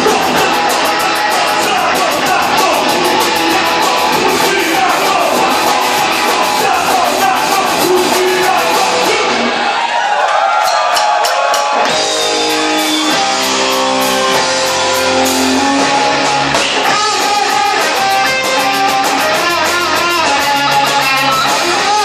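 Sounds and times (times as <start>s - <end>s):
live band with guitar: 0.0s - 9.9s, 11.1s - 22.0s.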